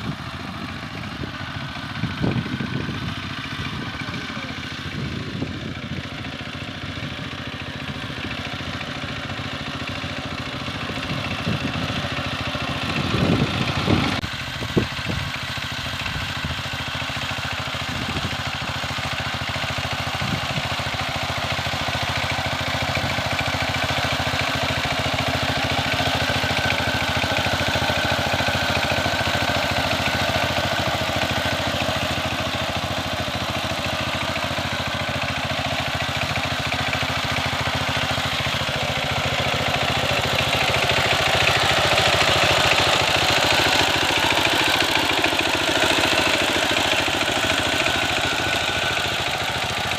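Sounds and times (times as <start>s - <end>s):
power tiller engine running: 0.0s - 49.9s.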